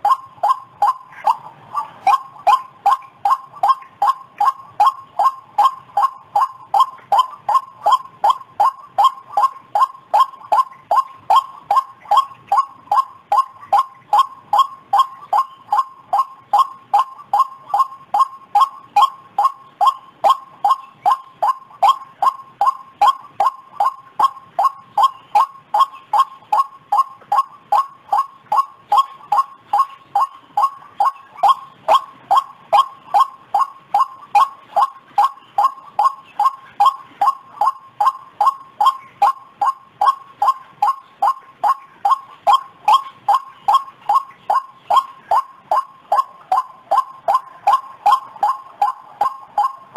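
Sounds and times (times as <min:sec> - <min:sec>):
waterhen calling: 0:00.0 - 0:49.9.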